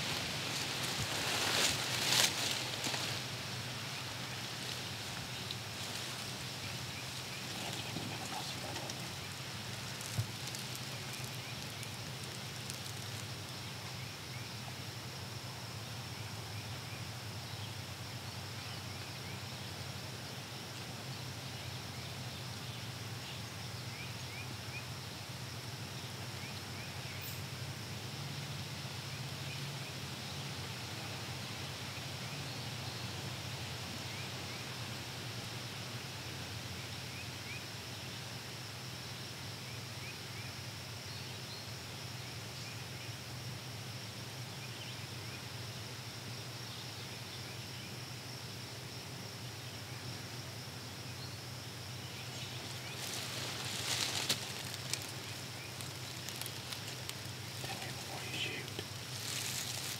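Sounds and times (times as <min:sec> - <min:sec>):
steady woodland hiss: 0:00.0 - 0:59.9.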